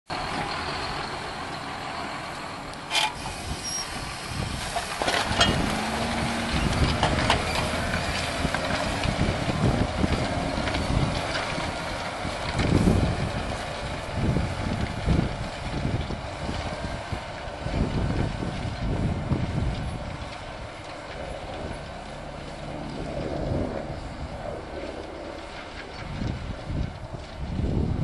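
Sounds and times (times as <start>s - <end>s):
tractor diesel engine under load: 0.1s - 28.0s
wind buffeting microphone: 3.2s - 28.0s.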